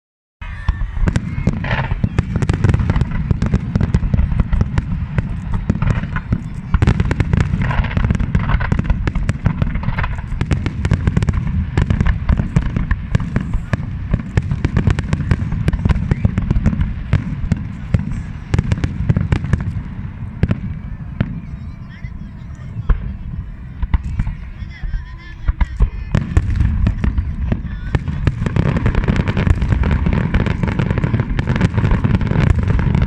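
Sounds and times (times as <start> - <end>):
fireworks bangs and crackles: 0.4 - 33.0.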